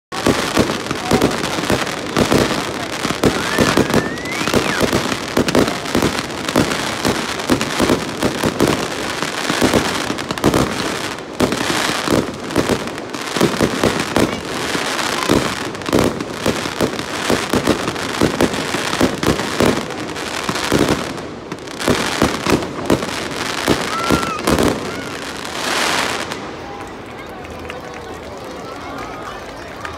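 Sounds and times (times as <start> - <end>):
fireworks bangs and crackles: 0.1 - 29.9.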